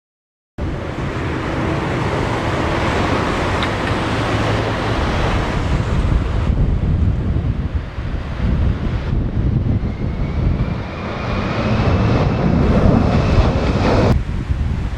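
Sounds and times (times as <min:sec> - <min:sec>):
jet engines on approach: 0:00.6 - 0:14.9
wind gusting against microphone: 0:00.6 - 0:14.9.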